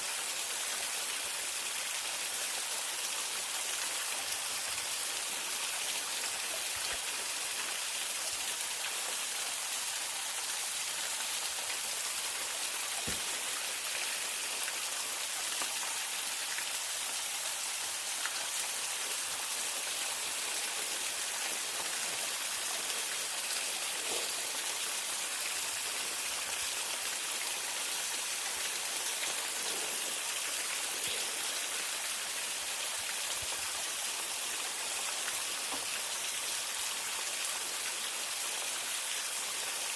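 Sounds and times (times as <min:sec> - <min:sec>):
waterfall hissing: 0:00.0 - 0:38.3.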